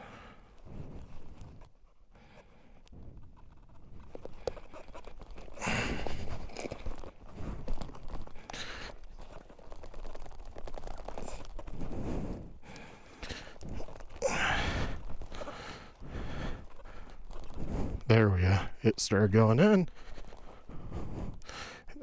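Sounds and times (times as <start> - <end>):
man breathing heavily: 0.0 - 22.0.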